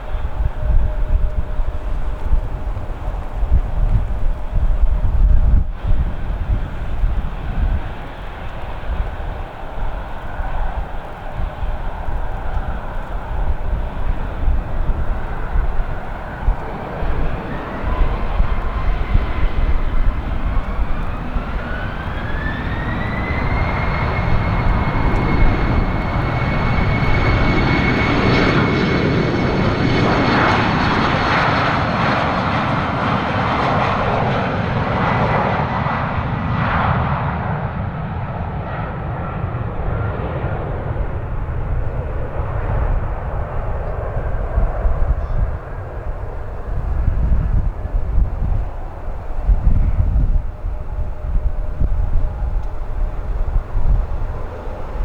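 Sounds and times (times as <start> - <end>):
jet engine roar at takeoff: 0.0 - 55.0
jet engines spooling up: 0.0 - 55.0
wind buffeting microphone: 0.0 - 55.0.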